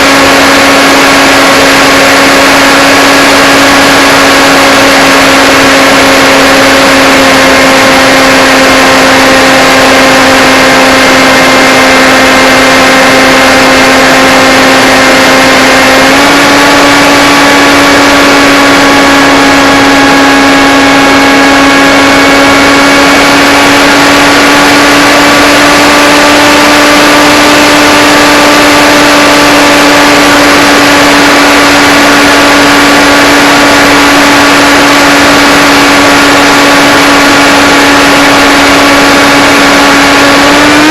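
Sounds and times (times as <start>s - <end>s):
drone propellers humming: 0.0s - 40.9s.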